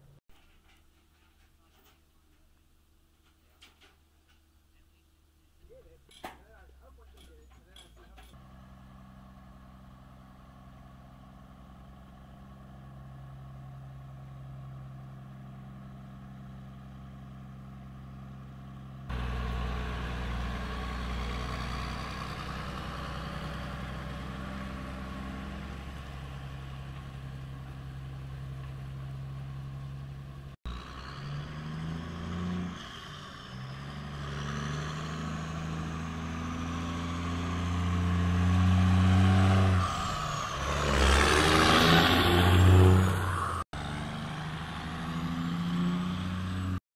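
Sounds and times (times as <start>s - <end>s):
diesel truck engine running: 8.3s - 46.8s.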